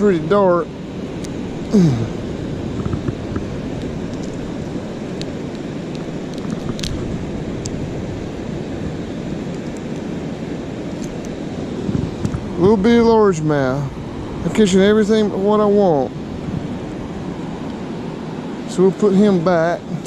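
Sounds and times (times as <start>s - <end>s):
water rushing roar: 0.0s - 20.0s.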